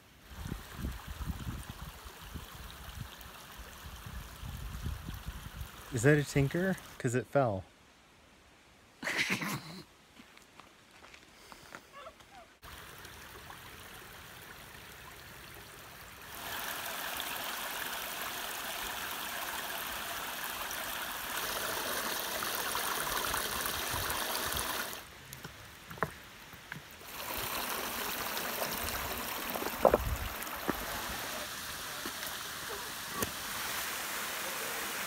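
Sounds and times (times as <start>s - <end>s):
stream trickling over rocks: 0.0s - 7.0s, 12.6s - 35.0s.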